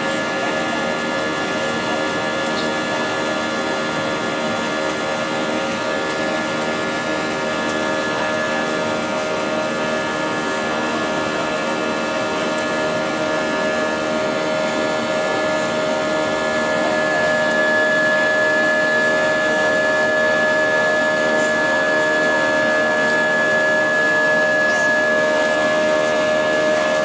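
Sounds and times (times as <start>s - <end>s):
jet engine whine in cabin: 0.0s - 27.0s.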